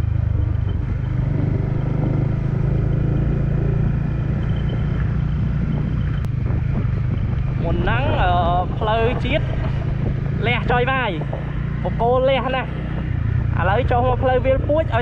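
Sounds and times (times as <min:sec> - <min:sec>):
motorcycle engine on road: 0:00.0 - 0:15.0.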